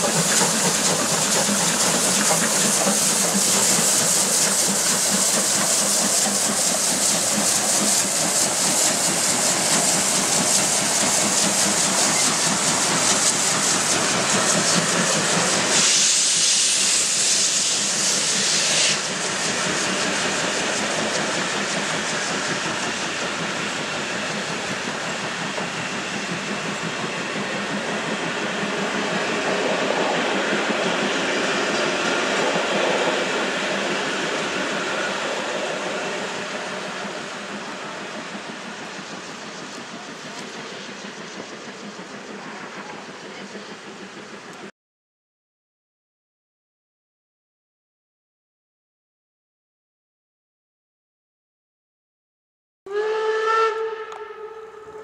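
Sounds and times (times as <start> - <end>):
steam locomotive hissing: 0.0 - 44.7.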